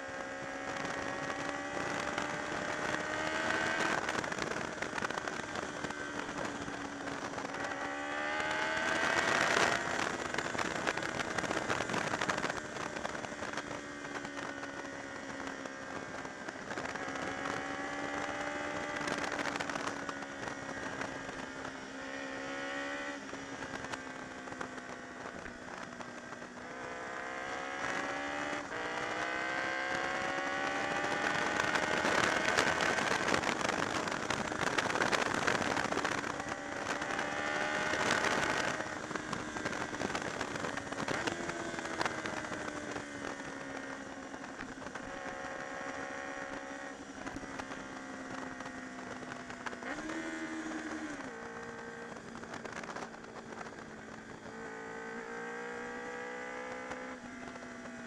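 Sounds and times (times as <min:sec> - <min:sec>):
motorcycle engine revving: 0:00.0 - 0:58.0
wind rushing over microphone: 0:00.0 - 0:58.0.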